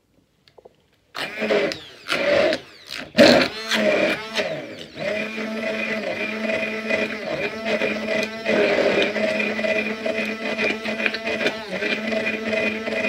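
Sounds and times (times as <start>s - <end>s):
immersion blender whirring: 1.2s - 13.0s.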